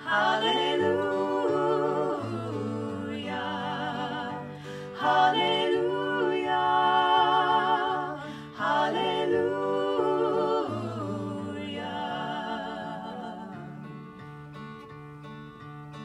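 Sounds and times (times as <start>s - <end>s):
women singing in harmony: 0.0s - 14.1s
acoustic guitar: 0.0s - 16.0s.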